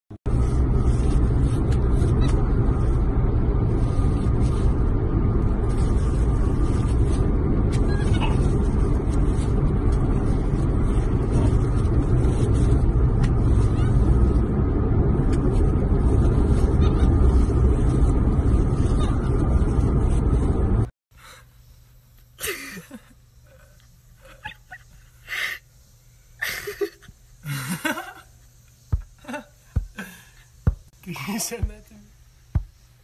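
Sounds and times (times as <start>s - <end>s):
car road and engine noise: 0.1s - 20.9s, 26.7s - 33.0s.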